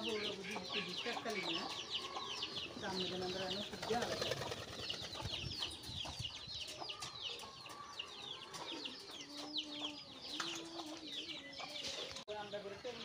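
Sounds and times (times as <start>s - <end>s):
birds chirping rapidly: 0.0s - 13.0s.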